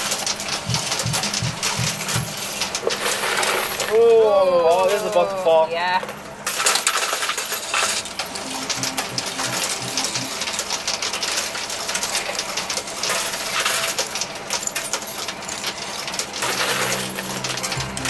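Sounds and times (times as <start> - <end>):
coins clattering in coin pusher: 0.0 - 5.2, 6.4 - 18.0.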